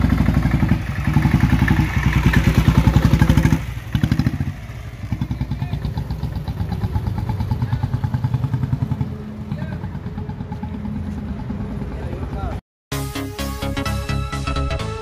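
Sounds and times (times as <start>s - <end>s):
motorcycle engine exhaust beats: 0.0s - 12.6s.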